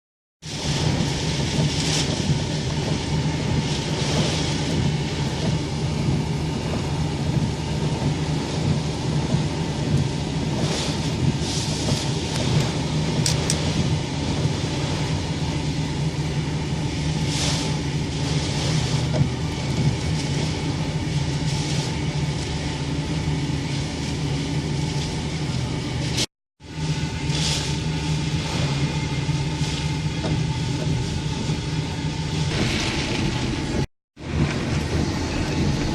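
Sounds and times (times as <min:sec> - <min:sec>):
heavy rain: 0:00.4 - 0:35.9
low rumble: 0:00.4 - 0:35.9.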